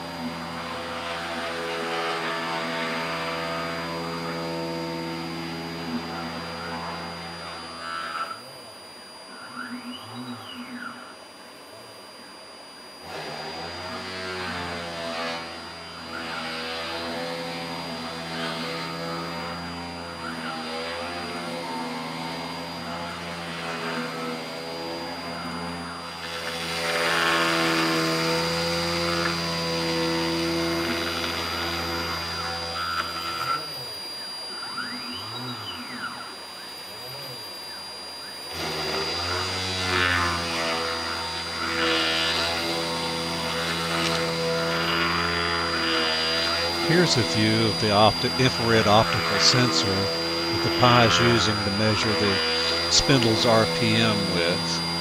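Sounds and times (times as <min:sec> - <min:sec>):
router bit cutting wood: 0:00.0 - 0:55.0
spindle motor hum and whine: 0:00.0 - 0:55.0.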